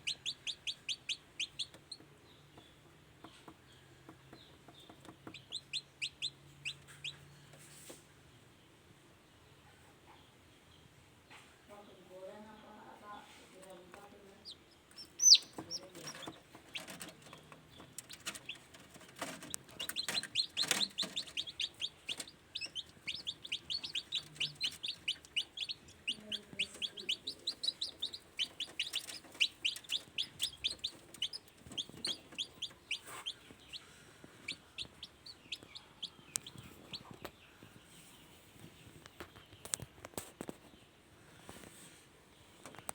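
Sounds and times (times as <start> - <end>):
chicks peeping: 0.0 - 8.4, 13.5 - 41.8.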